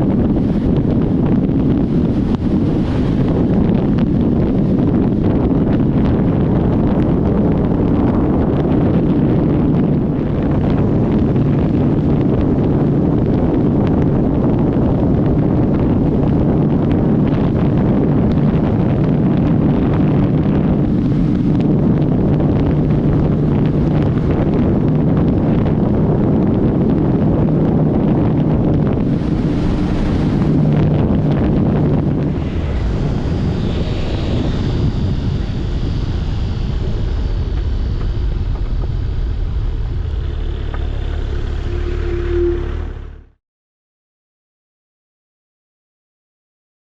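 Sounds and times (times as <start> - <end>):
faint motorcycle hum: 0.0 - 43.3
wind buffeting microphone: 0.0 - 43.3.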